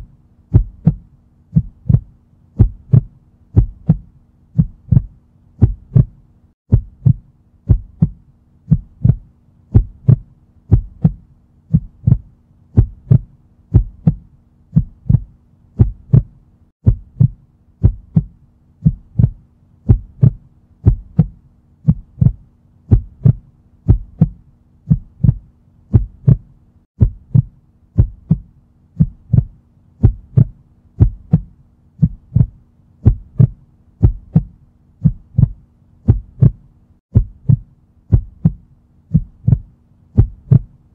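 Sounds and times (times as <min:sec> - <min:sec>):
slow heartbeat thumps: 0:00.0 - 0:40.8
faint steady hum: 0:00.0 - 0:40.9.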